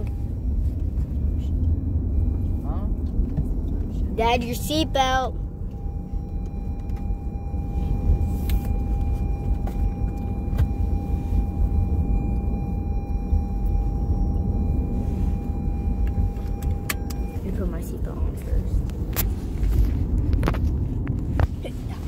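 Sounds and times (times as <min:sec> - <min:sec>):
thin steady high tone: 0:00.0 - 0:17.9
car road and engine rumble: 0:00.0 - 0:22.0.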